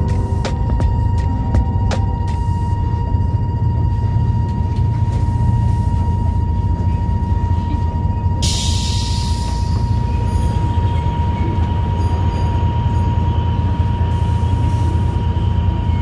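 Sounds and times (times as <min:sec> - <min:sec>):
train rumble with high whine: 0:00.0 - 0:16.0.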